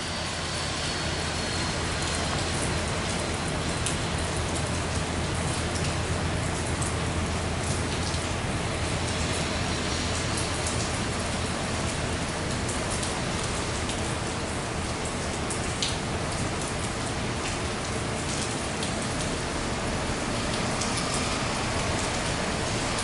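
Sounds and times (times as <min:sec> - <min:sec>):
steady rain: 0:00.0 - 0:23.0
raindrops ticking: 0:00.2 - 0:23.0.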